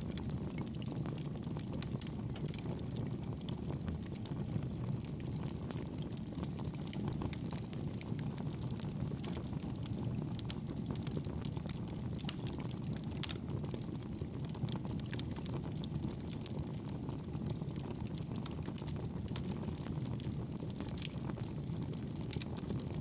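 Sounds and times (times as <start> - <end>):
fire crackling in fireplace: 0.0 - 23.0.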